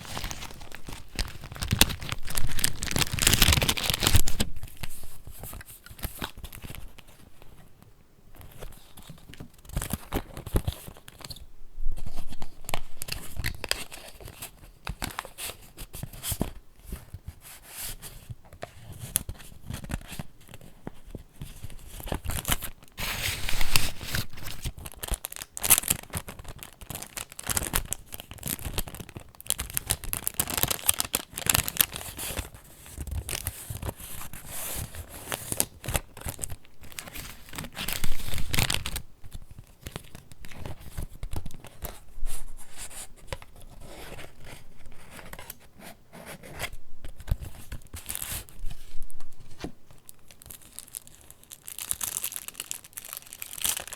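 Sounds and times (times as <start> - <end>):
paper pages rustling and crinkling: 0.0 - 7.6, 12.0 - 53.9.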